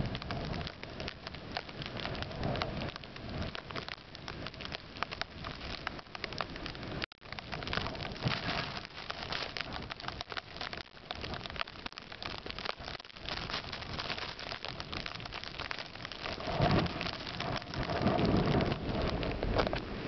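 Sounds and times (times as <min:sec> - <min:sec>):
wind blowing on microphone: 0:00.0 - 0:10.1, 0:12.2 - 0:20.0
crackling patter: 0:00.0 - 0:20.0.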